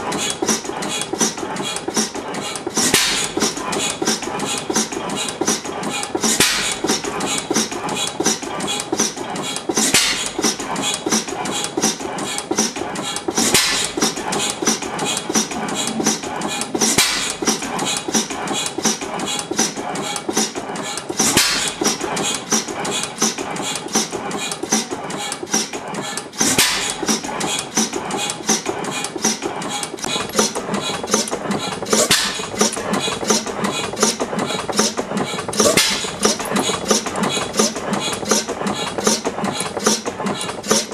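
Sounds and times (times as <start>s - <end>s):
stationary engine clattering: 0.0s - 40.9s.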